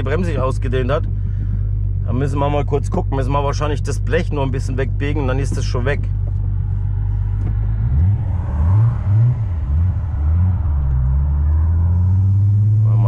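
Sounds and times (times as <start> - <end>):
car engine drone from cabin: 0.0 - 13.0.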